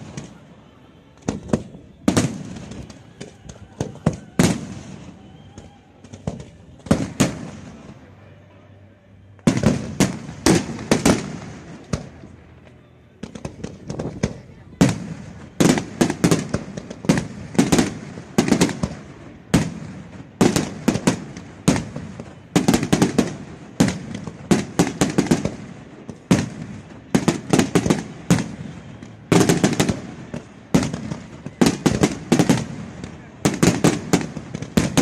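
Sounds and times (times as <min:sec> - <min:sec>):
fireworks bangs with echo: 0:00.0 - 0:08.2, 0:09.4 - 0:12.4, 0:13.2 - 0:35.0.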